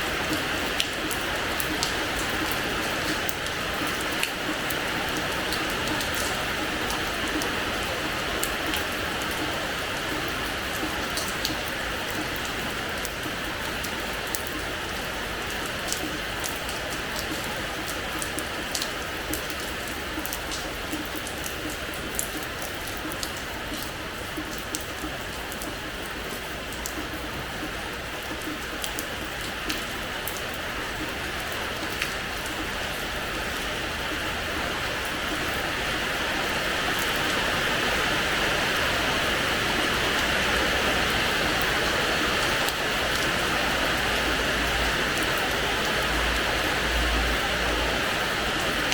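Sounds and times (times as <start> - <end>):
rain on a hard floor: 0.0 - 48.9.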